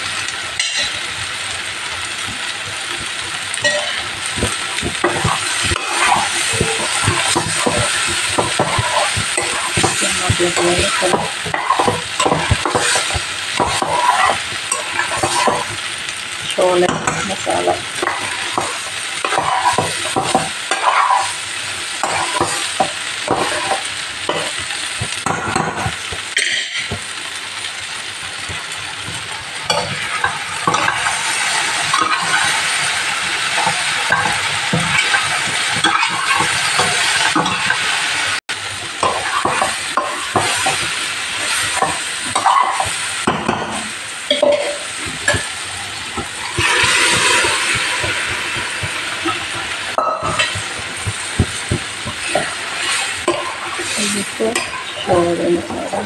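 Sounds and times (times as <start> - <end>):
food sizzling in pans: 0.0 - 56.0
spoon scraping and clinking pans: 0.6 - 1.0, 3.6 - 15.8, 16.8 - 21.4, 22.0 - 27.0, 29.1 - 38.0, 39.0 - 45.6, 46.2 - 55.8.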